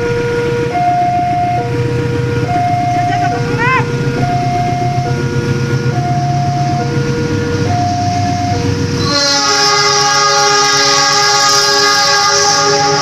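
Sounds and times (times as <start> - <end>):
locomotive engine rumble: 0.0 - 13.0
locomotive horn: 0.0 - 13.0
two-note warning tone: 0.0 - 13.0.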